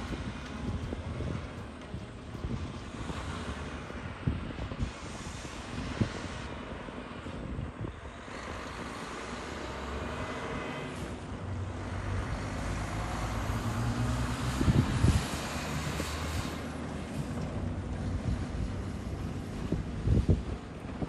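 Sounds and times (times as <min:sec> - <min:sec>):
truck driving past: 0:00.0 - 0:21.0.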